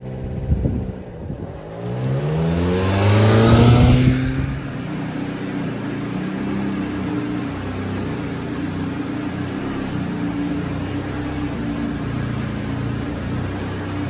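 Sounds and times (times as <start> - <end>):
engine revving and idling: 0.0 - 14.0.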